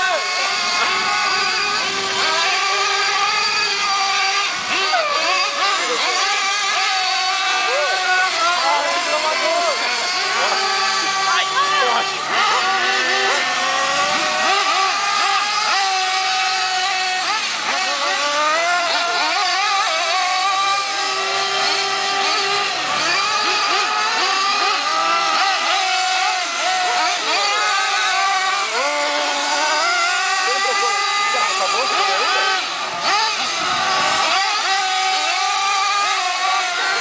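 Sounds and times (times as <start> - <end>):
model car engines whining: 0.0 - 37.0.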